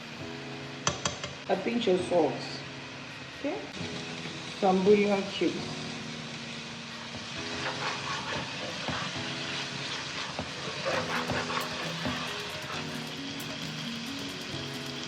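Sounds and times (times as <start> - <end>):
sauce sizzling in a pot: 0.0 - 15.0
soft background music: 0.0 - 15.0.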